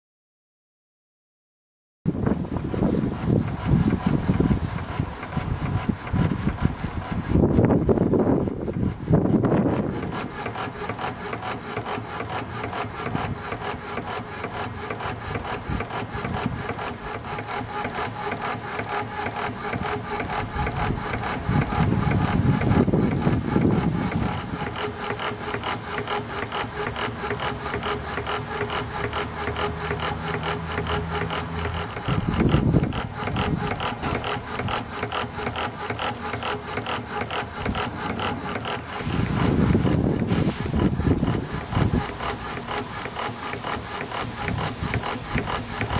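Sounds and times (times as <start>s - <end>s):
steam engine exhaust chuffing: 2.2s - 45.9s.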